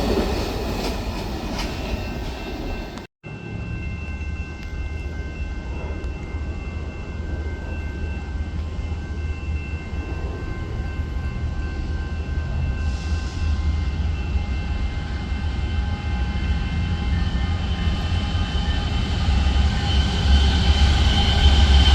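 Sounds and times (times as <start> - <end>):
train rumbling past: 0.0 - 21.9.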